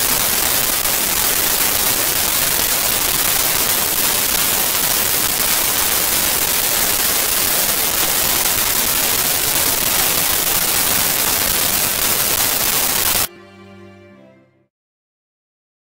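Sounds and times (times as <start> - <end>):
white noise hiss: 0.0 - 13.3.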